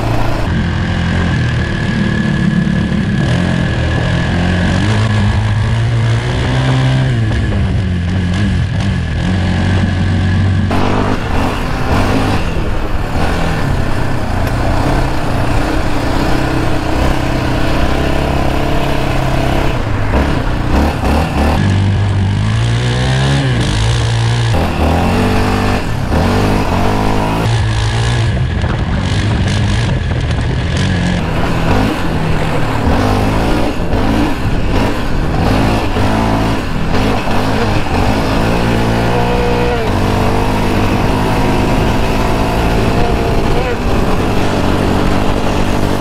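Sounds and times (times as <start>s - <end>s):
quad bike engine accelerating: 0.0s - 46.0s.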